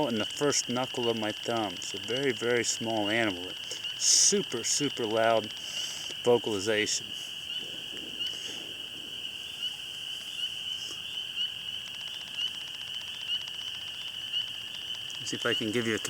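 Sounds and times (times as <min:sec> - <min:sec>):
spring peepers calling: 0:00.0 - 0:16.0.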